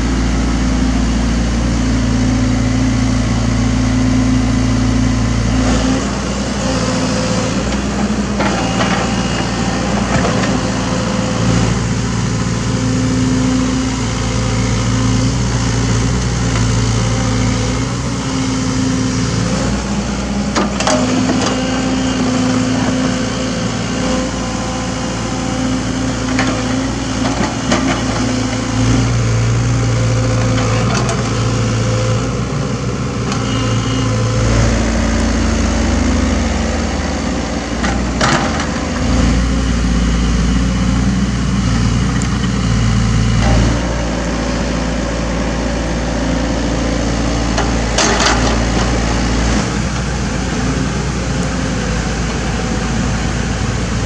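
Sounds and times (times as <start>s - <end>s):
excavator engine under load: 0.0s - 54.0s.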